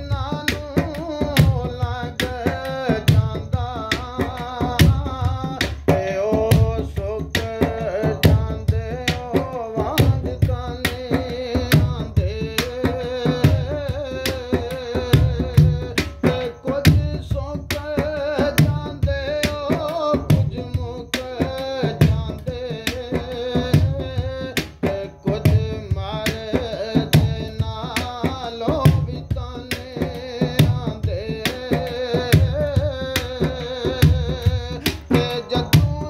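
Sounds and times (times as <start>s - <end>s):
person singing: 0.0s - 36.0s.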